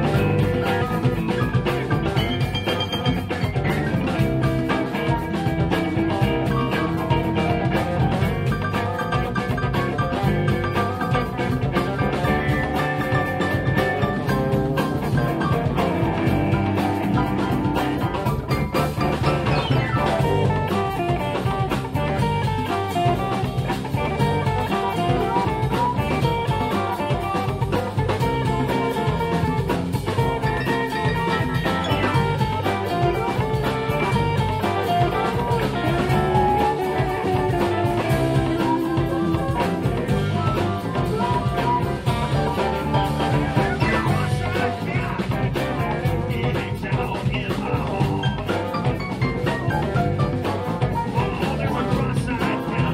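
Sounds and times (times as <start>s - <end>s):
blues band playing live: 0.0s - 52.9s.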